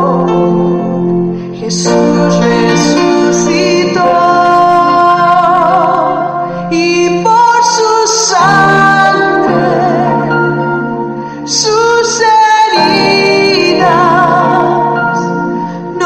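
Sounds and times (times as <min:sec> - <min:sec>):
woman singing: 0:00.0 - 0:01.0, 0:01.6 - 0:10.8, 0:11.4 - 0:16.0.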